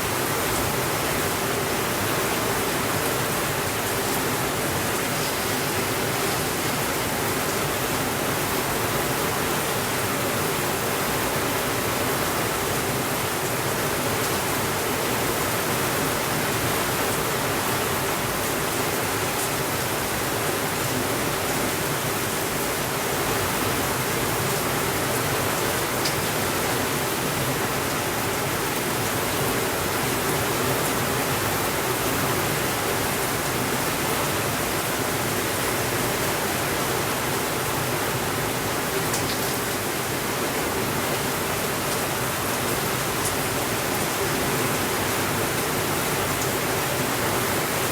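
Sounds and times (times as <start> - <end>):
steady rainfall: 0.0 - 47.9.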